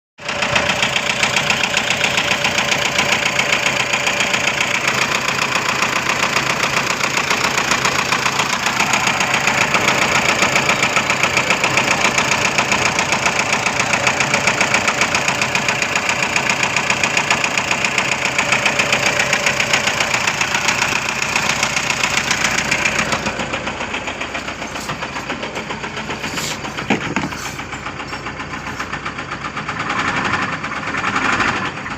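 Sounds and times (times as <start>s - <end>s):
engine idling with rapid knock: 0.2s - 31.9s.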